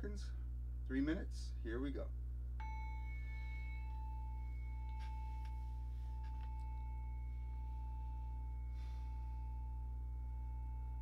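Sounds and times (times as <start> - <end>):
high pure ringing tone: 0.0 - 11.0
low hum: 0.0 - 11.0.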